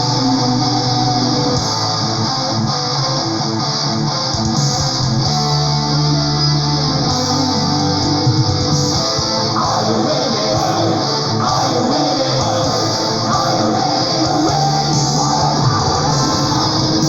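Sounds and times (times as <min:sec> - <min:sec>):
metal music with guitars: 0:00.0 - 0:17.0.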